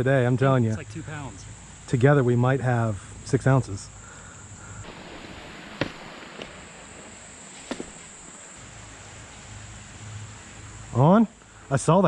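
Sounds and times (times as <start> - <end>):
high insect drone: 0.1 - 12.0.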